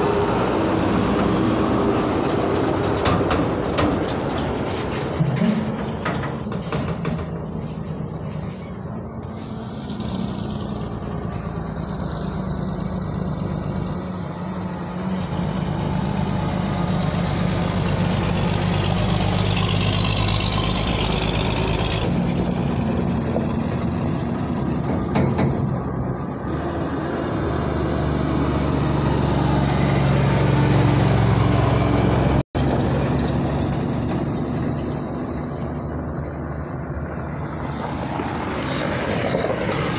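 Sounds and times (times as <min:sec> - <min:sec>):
heavy diesel trucks running: 0:00.0 - 0:39.9.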